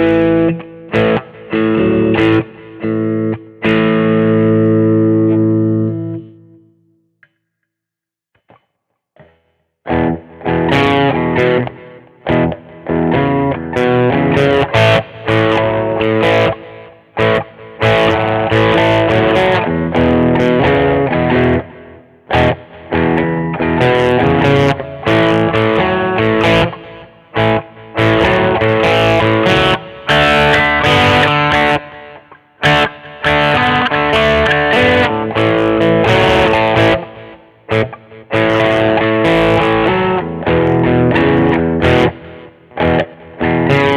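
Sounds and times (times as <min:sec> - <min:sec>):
distorted electric guitar riffs: 0:00.0 - 0:06.7, 0:09.2 - 0:43.9.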